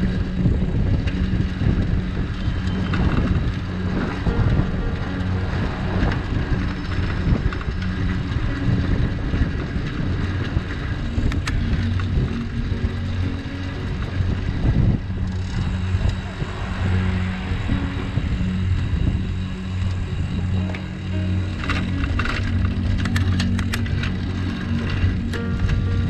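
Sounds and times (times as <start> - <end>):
low steady hum: 0.0 - 26.0
motor traffic: 0.0 - 26.0
wind buffeting microphone: 0.0 - 26.0.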